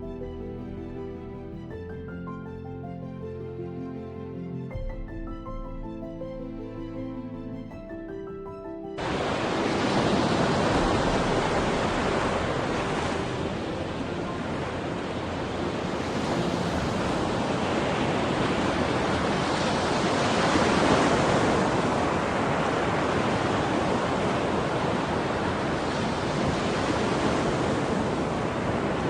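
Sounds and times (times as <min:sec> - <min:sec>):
steady rushing noise: 0:04.8 - 0:29.0.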